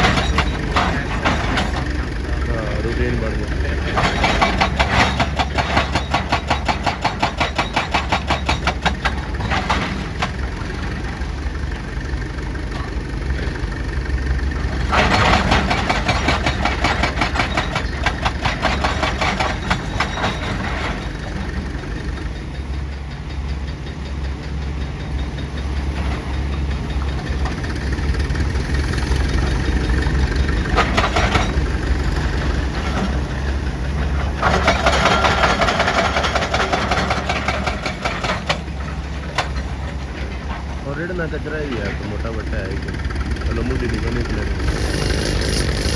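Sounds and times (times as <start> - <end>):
diesel machinery pounding: 0.0 - 45.9.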